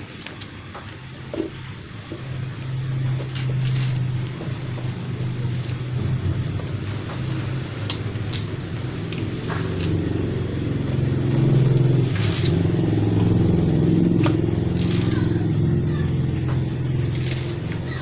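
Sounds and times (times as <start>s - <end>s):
rubber inner tube crackling: 0.0s - 15.7s, 16.4s - 18.0s
low motor drone: 1.4s - 18.0s.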